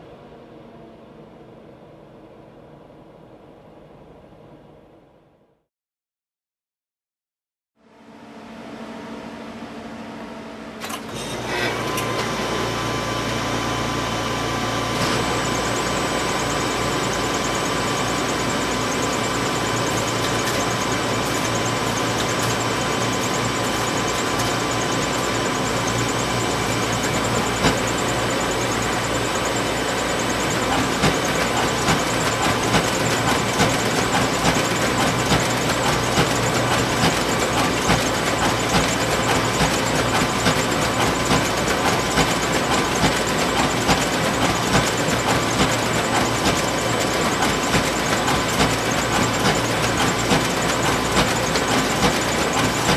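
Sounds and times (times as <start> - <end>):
photocopier humming and whining: 7.9 - 52.9.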